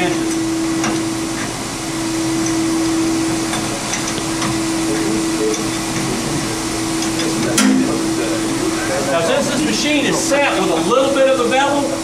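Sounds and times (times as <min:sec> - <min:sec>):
concrete polishing machine humming: 0:00.0 - 0:11.1.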